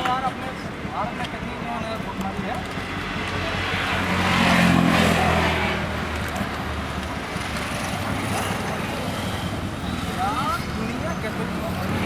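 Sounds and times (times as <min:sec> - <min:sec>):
steady road noise: 0:00.0 - 0:12.0.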